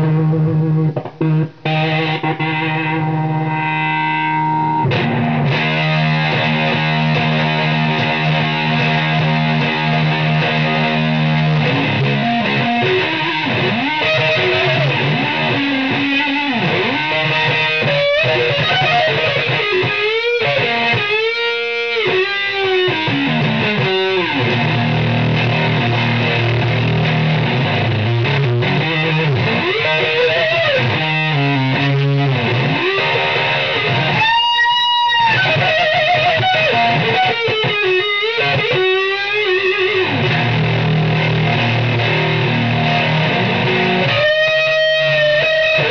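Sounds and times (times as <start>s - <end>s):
electric guitar solo with string bends: 0.0s - 45.9s.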